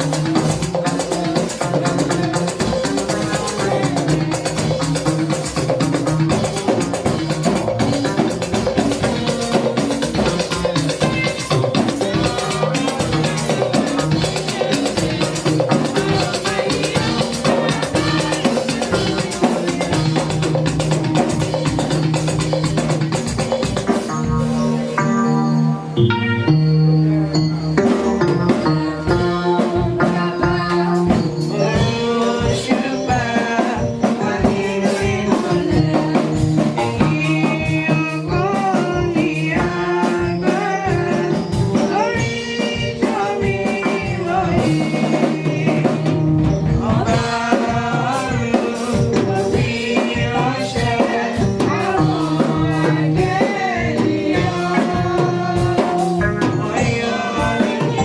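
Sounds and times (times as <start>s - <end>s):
drums beat: 0.0s - 24.9s, 27.8s - 58.0s
voices singing: 0.0s - 58.0s.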